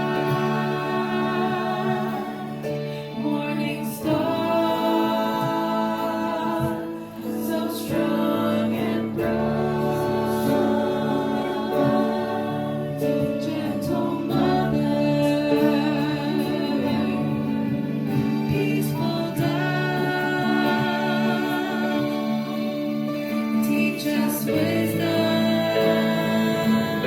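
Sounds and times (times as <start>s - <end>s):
choir singing a hymn: 0.0s - 27.0s
musical accompaniment: 0.0s - 27.0s.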